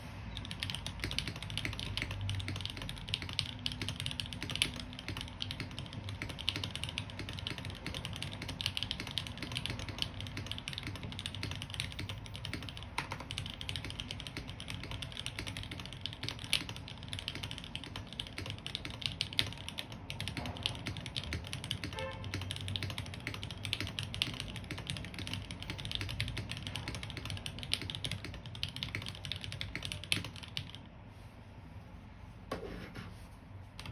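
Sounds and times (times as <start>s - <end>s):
mechanical keyboard typing: 0.3s - 30.8s.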